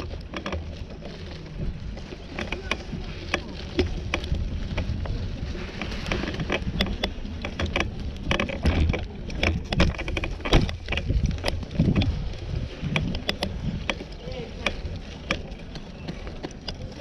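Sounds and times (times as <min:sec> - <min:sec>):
sharp clicks and rattling knocks: 0:00.0 - 0:17.0
wind rumbling on microphone: 0:00.0 - 0:17.0.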